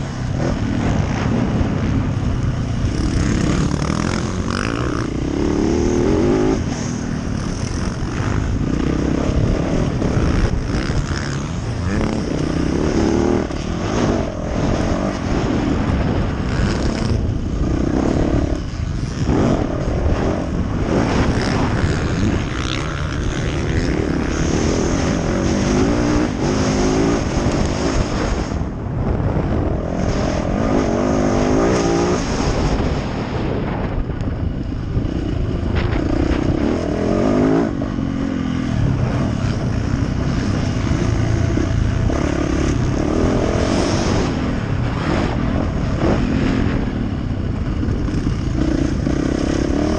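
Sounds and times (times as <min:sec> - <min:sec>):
motocross bike engine revving: 0:00.0 - 0:33.3, 0:34.6 - 0:49.9.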